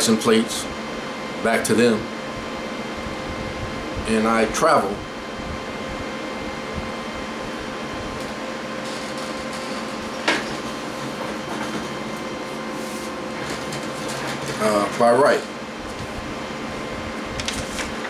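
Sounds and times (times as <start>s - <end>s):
air conditioner hum and hiss: 0.0s - 18.0s.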